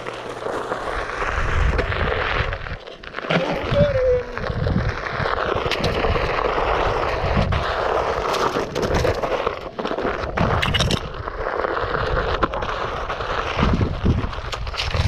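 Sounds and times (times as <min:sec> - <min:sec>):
tyre rolling over dirt trail: 0:00.0 - 0:15.0.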